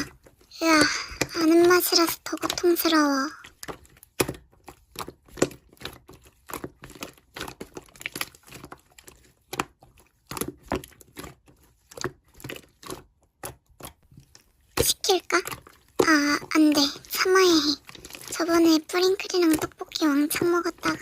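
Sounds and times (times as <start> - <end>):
slime crackling and popping: 0.6 - 21.0.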